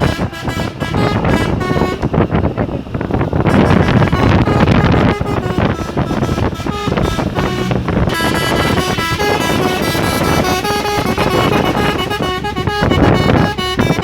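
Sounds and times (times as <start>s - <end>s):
truck air horn melody: 0.0s - 2.4s, 3.4s - 14.0s
road noise: 0.0s - 14.0s
truck engine: 0.0s - 14.0s.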